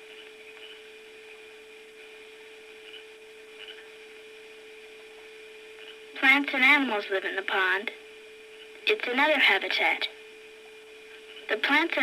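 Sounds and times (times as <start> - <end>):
steady faint hum: 0.0 - 12.0.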